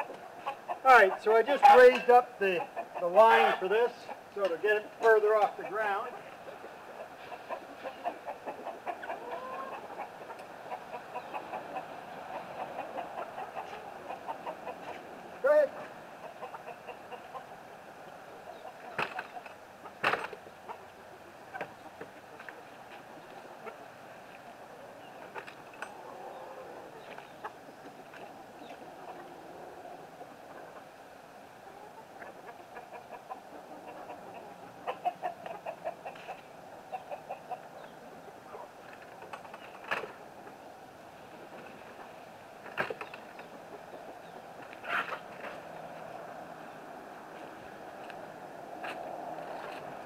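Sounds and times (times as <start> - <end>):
hens clucking: 0.0 - 50.0.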